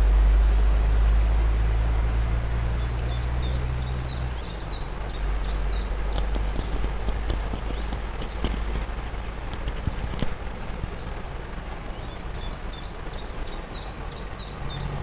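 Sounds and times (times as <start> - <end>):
loud low hum: 0.0 - 15.0
small birds chirping: 0.0 - 15.0
waterfall rushing: 0.0 - 15.0.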